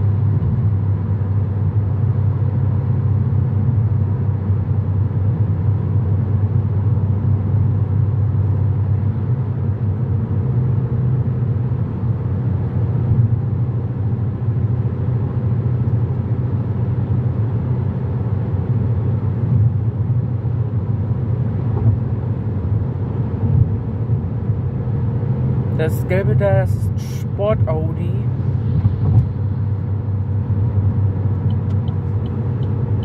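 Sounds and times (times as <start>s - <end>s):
road and engine drone in car: 0.0s - 33.0s.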